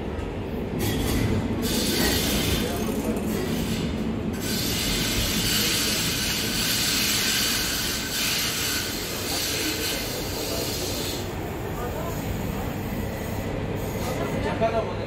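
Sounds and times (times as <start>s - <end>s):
tram low rumble: 0.0s - 15.0s
wheels hissing on rails: 0.5s - 15.0s.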